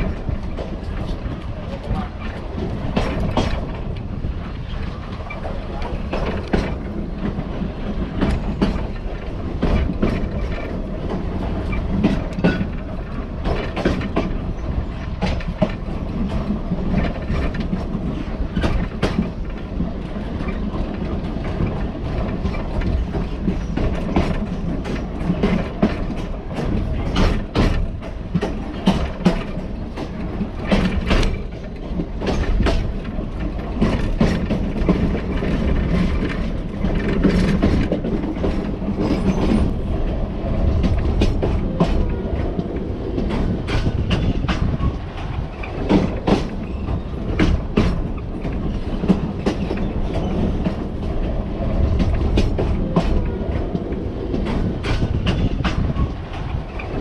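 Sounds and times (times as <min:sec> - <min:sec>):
train wheels rumbling on track: 0:00.0 - 0:57.0
wheels clicking and knocking: 0:05.2 - 0:57.0.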